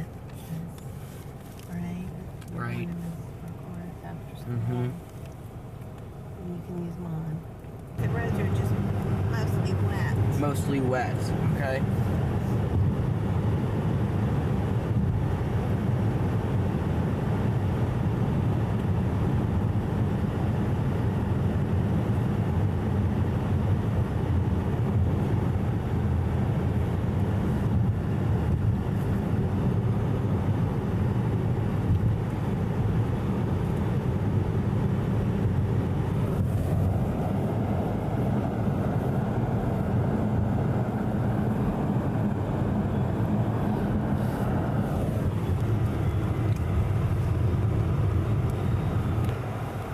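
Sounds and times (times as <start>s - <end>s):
engine and tyre drone in car: 0.0s - 49.9s.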